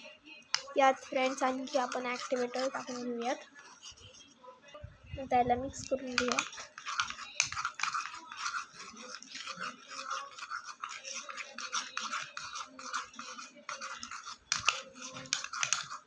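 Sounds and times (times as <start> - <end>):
slime squishing and scraping: 0.5 - 4.3, 5.2 - 16.0.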